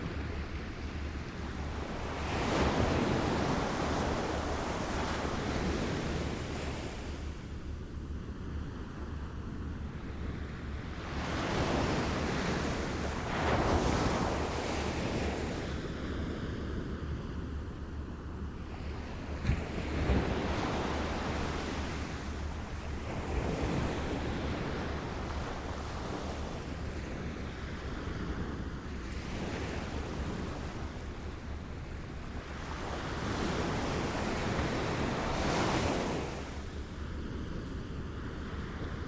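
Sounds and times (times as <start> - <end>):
wind rumble on microphone: 0.0 - 39.0.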